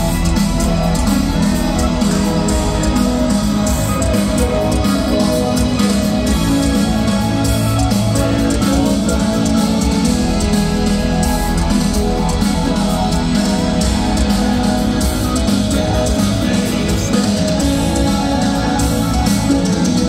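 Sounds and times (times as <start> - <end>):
electric guitars: 0.0 - 20.0
rock band playing live: 0.0 - 20.0.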